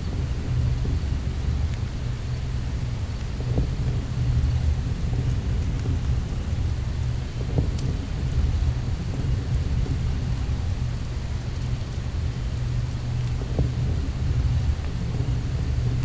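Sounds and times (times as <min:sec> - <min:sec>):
deep ambient rumble: 0:00.0 - 0:16.0
faint clicks: 0:03.1 - 0:16.0.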